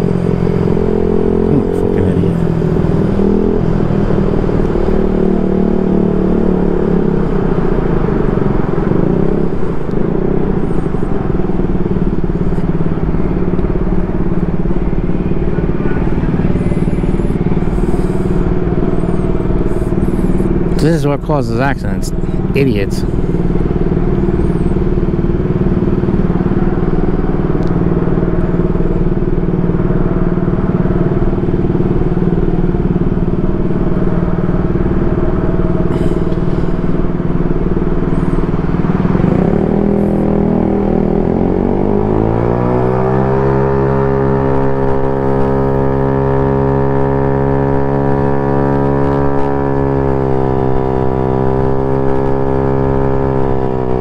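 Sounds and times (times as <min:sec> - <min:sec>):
scooter engine running: 0:00.0 - 0:20.8, 0:22.1 - 0:54.0.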